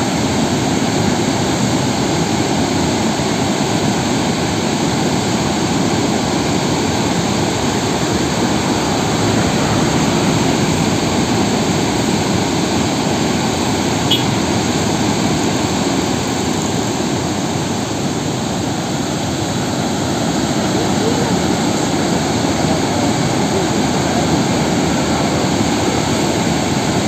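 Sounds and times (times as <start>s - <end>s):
rush of white water: 0.0s - 27.0s.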